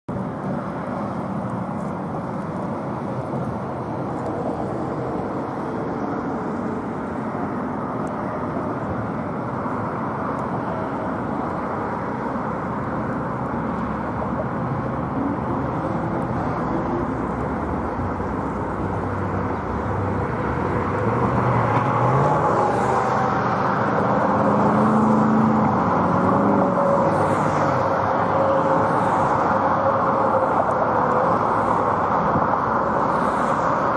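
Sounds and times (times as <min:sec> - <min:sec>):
jet engines roaring: 0:00.1 - 0:33.9.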